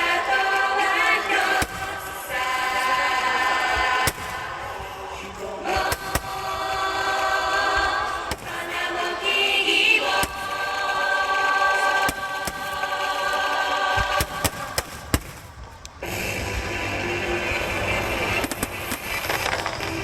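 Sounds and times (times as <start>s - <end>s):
choir singing: 0.0s - 20.0s
fireworks bursting: 0.0s - 20.0s.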